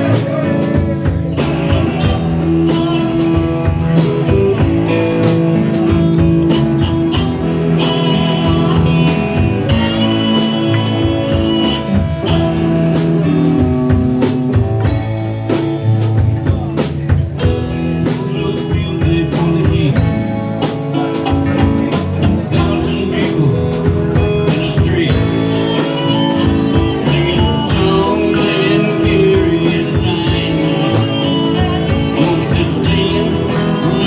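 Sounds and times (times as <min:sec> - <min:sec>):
drum kit steady beat: 0:00.0 - 0:34.0
guitar: 0:00.0 - 0:34.0.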